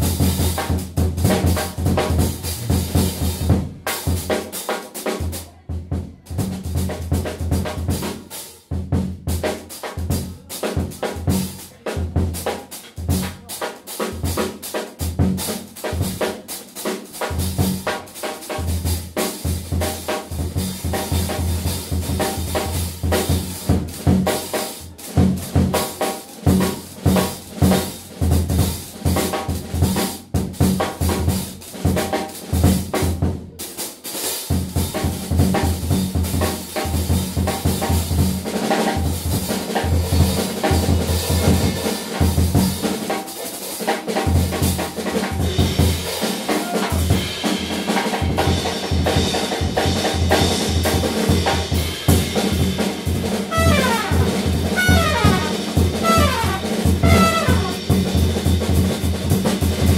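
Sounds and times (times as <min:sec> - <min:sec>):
jazz drum kit: 0:00.0 - 0:59.9.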